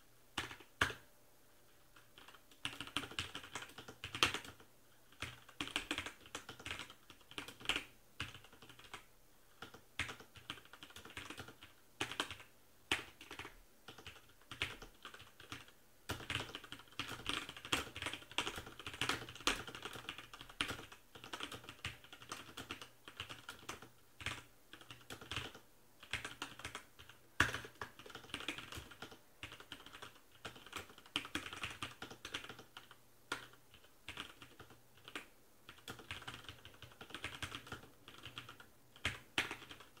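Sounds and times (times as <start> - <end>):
mechanical keyboard typing: 0.4 - 1.0, 2.2 - 40.0.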